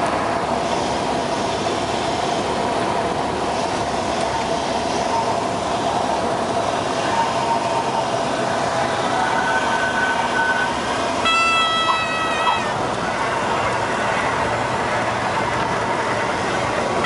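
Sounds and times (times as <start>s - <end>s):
light plane engine and propeller: 0.0s - 17.0s
rushing air: 0.0s - 17.0s.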